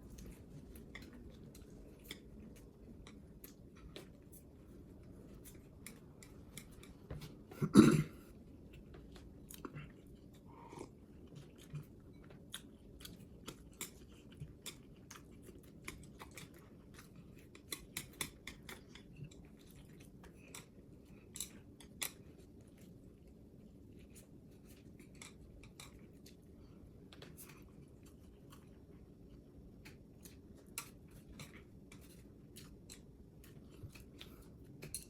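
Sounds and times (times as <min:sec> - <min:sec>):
clicks and crunches of eating: 0:00.0 - 0:07.5, 0:08.5 - 0:35.0.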